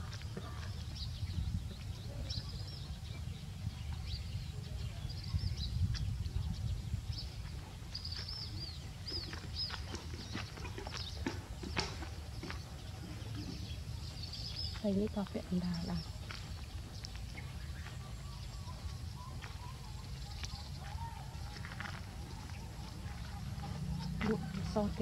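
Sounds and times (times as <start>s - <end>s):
small birds chirping: 0.0s - 25.0s
steady low rumble: 0.0s - 25.0s.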